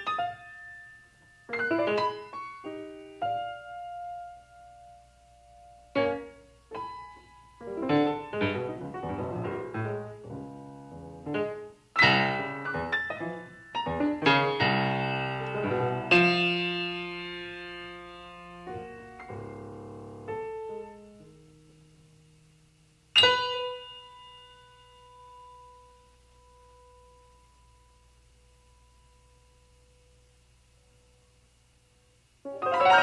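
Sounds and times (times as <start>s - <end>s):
solo piano: 0.0s - 21.9s, 23.1s - 29.5s, 32.4s - 33.0s.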